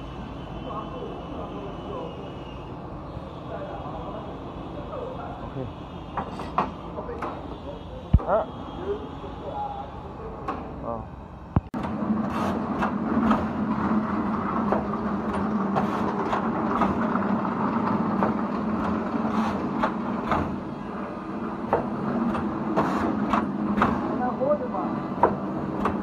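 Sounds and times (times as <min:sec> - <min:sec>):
machinery hum: 0:00.0 - 0:26.0.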